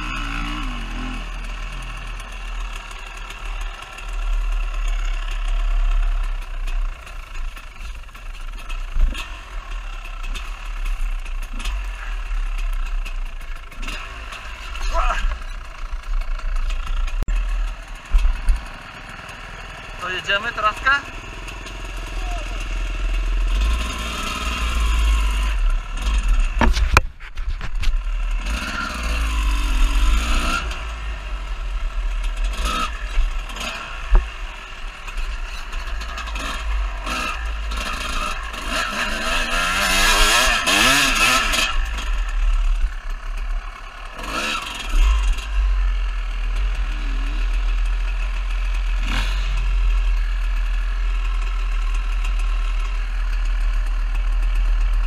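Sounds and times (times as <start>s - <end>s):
dirt bike engine revving: 0.0s - 27.0s, 27.9s - 55.0s.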